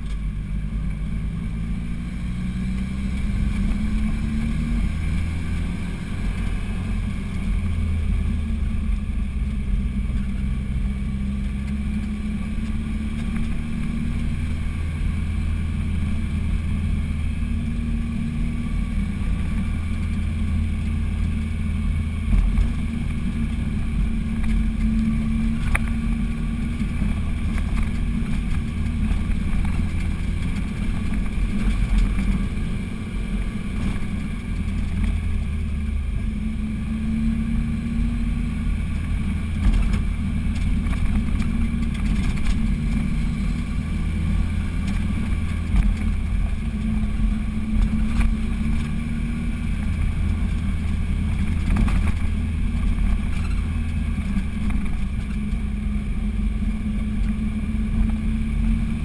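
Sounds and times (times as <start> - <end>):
car engine droning: 0.0 - 59.0.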